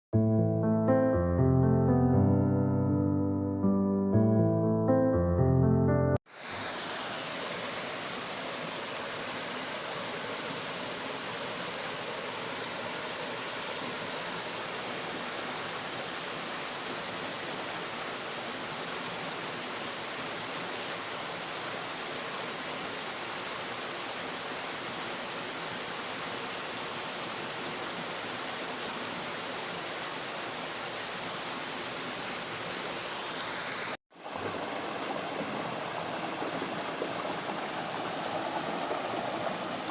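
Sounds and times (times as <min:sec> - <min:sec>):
waterfall roaring: 0:06.3 - 0:39.9.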